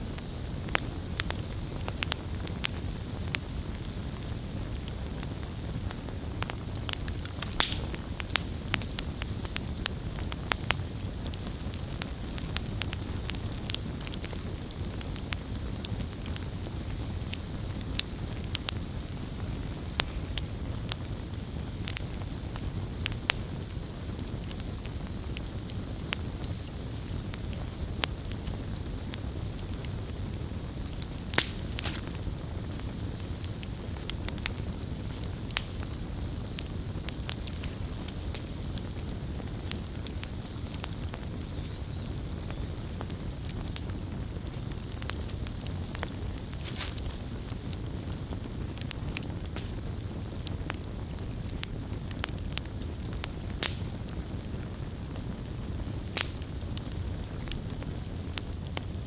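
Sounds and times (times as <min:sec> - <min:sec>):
campfire crackling: 0:00.0 - 0:59.0
flames rushing: 0:00.0 - 0:59.0.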